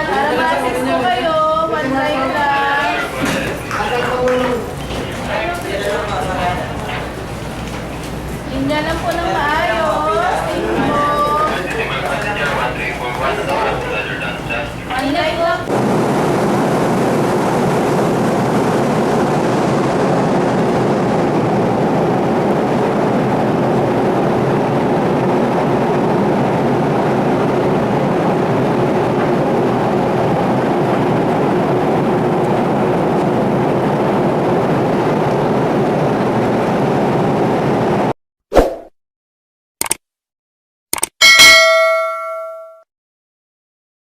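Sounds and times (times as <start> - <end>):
ship engine drone: 0.0 - 38.1.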